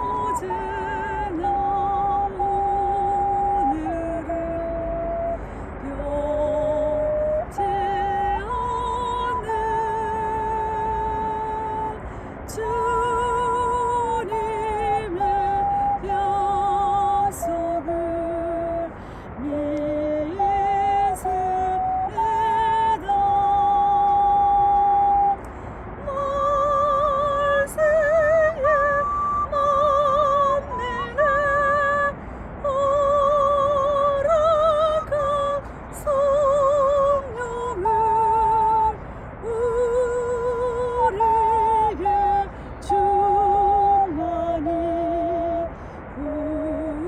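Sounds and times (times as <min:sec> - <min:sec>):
ocarina playing hymn melody: 0:00.0 - 0:47.0.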